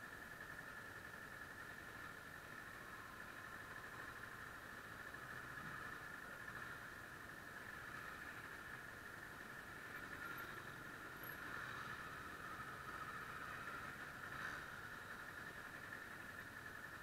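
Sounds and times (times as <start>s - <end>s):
muffled motorcycle engine drone: 0.0s - 17.0s.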